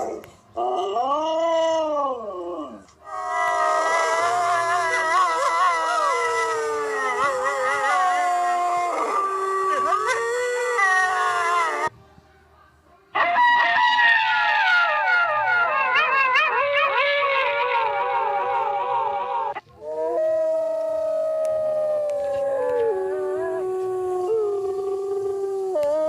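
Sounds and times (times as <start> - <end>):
wolves howling in chorus: 0.0 - 11.9, 13.2 - 26.0.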